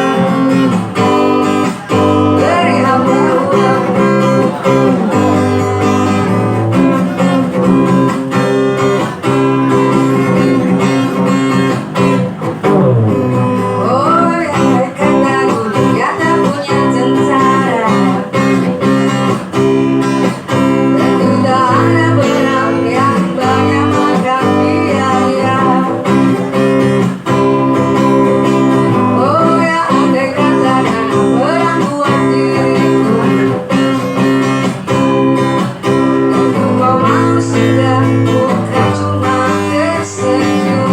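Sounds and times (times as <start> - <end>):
guitar background music: 0.0 - 40.9.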